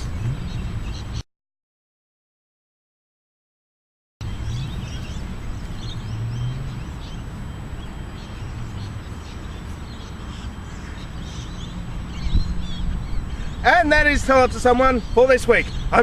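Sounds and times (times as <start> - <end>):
low outdoor rumble: 0.0 - 1.2, 4.2 - 16.0
small birds chirping: 0.0 - 1.2, 4.2 - 16.0.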